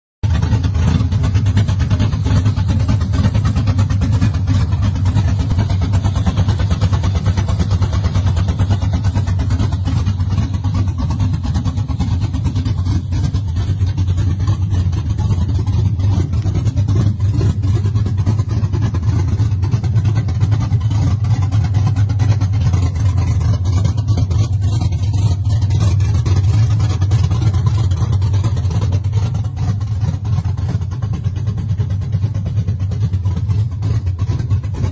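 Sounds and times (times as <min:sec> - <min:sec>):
pickup engine idling: 0:00.2 - 0:34.9.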